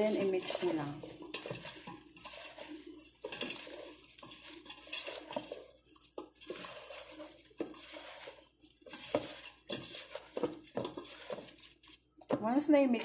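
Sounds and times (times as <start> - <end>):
food scraping in metal bowl: 0.0 - 13.0.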